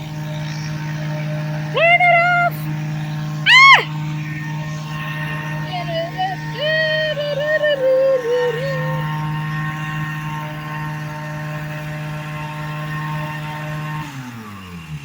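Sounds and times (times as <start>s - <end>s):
propeller aircraft engine running: 0.0s - 15.0s
propeller winding down: 0.0s - 15.0s.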